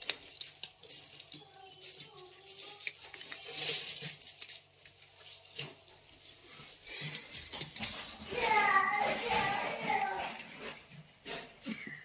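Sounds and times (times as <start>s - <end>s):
cats crunching dry kibble: 0.0s - 11.9s.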